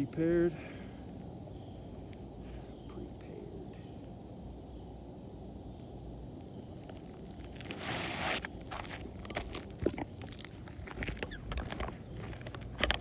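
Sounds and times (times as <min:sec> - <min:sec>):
faint high insect drone: 0:00.0 - 0:13.0
low outdoor rumble: 0:00.0 - 0:13.0.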